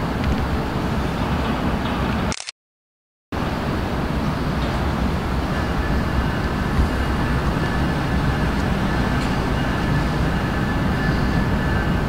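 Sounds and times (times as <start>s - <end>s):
freight train rumbling: 0.0s - 2.3s, 3.4s - 12.0s.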